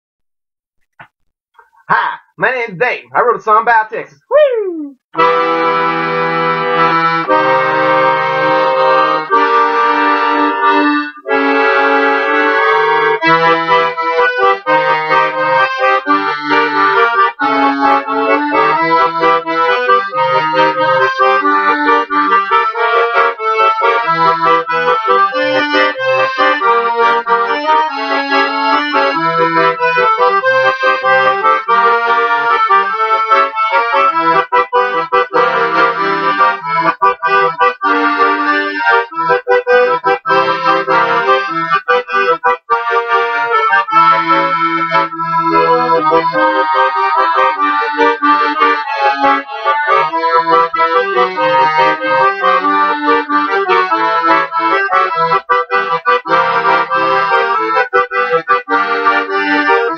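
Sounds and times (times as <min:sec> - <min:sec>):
piano accordion playing polka: 0:05.2 - 0:59.9.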